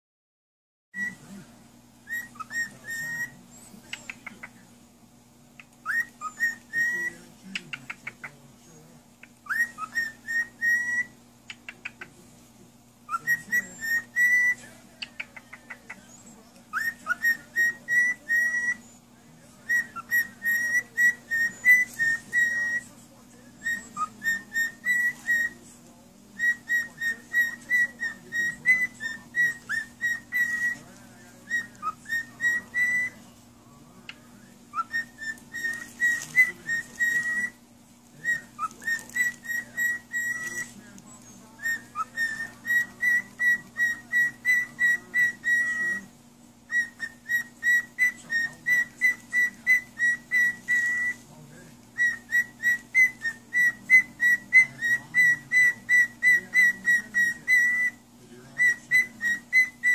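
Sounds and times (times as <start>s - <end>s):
cockatiel chirps: 1.0s - 1.2s, 2.0s - 4.6s, 5.6s - 8.3s, 9.2s - 12.1s, 13.1s - 19.0s, 19.6s - 22.9s, 23.5s - 25.6s, 26.4s - 33.2s, 34.1s - 37.6s, 38.2s - 46.1s, 46.7s - 51.3s, 52.0s - 58.0s, 58.6s - 59.9s
cockatiel whistling: 1.0s - 1.3s, 2.0s - 4.6s, 5.6s - 8.3s, 9.3s - 12.0s, 13.1s - 19.0s, 19.6s - 23.0s, 23.6s - 25.7s, 26.4s - 33.2s, 34.1s - 37.6s, 38.2s - 46.1s, 46.7s - 51.2s, 52.0s - 59.9s.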